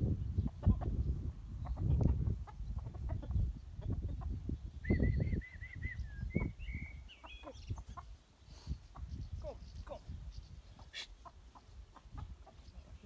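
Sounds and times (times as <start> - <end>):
young chickens calling: 0.0 - 13.0.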